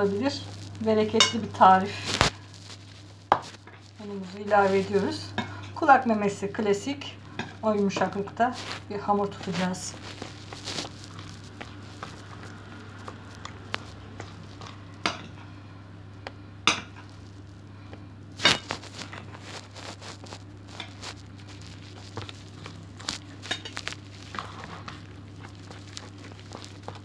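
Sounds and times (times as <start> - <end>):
dough squishing: 0.0 - 15.3, 16.7 - 27.0
steady low hum: 0.0 - 27.0.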